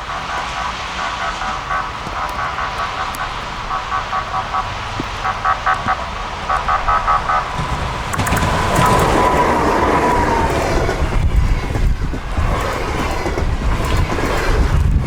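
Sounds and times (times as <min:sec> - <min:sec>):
electric locomotive rumble: 0:00.0 - 0:15.0.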